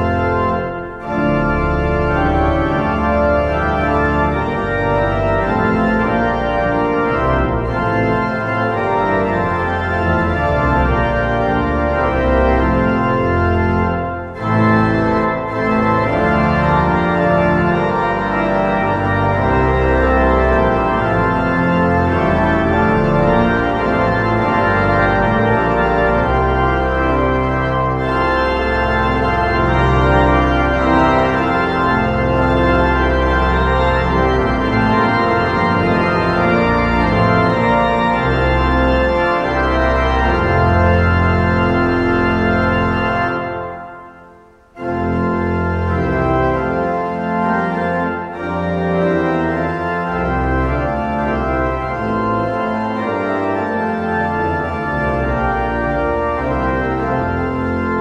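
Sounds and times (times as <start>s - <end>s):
pipe organ playing a hymn: 0.0s - 58.0s.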